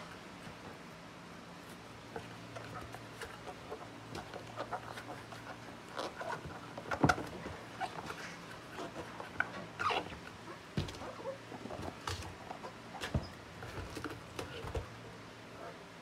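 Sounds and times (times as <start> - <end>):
cardboard scraping and rustling: 1.6 - 15.0.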